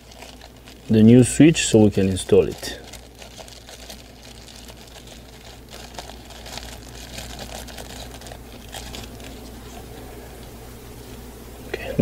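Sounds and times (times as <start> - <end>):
plastic bag crinkling: 0.0 - 10.2
gloved hands rustling: 0.0 - 11.3
steady low hum: 0.0 - 12.0.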